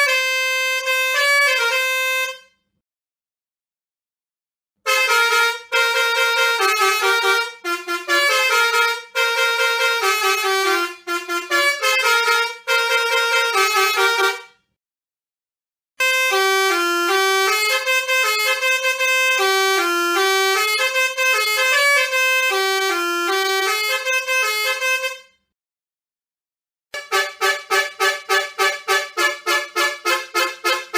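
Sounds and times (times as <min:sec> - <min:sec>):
musical bus horn melody: 0:00.0 - 0:02.8, 0:04.8 - 0:14.8, 0:16.0 - 0:25.5, 0:27.0 - 0:30.9.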